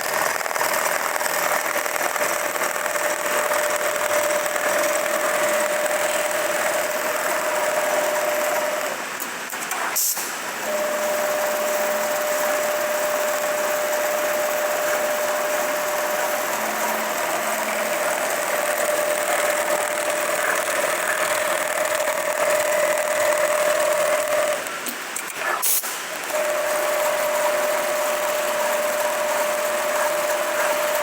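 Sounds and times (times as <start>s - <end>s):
sewing machine humming: 0.0s - 31.0s.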